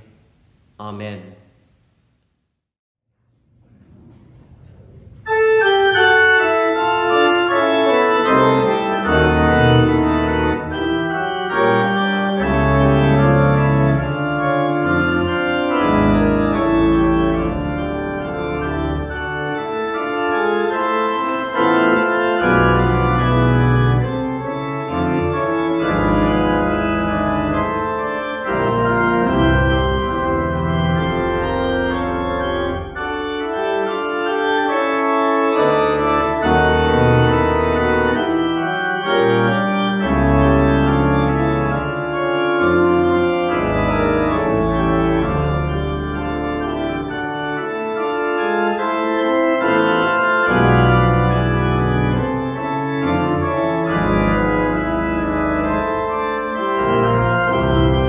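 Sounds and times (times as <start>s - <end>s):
organ chords: 5.2s - 58.0s.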